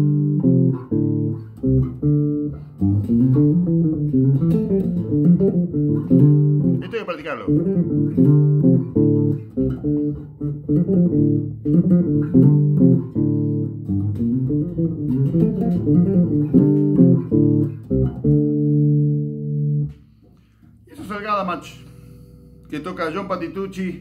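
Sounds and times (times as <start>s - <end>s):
electric bass played fingerstyle: 0.0s - 24.0s.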